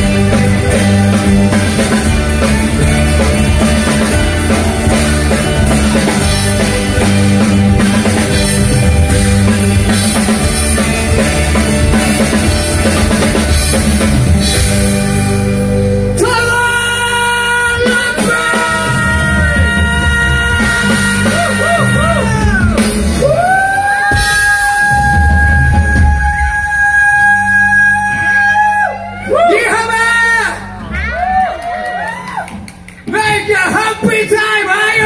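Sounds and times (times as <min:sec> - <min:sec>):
drum kit: 0:00.0 - 0:29.0
electric and acoustic guitars: 0:00.0 - 0:34.1.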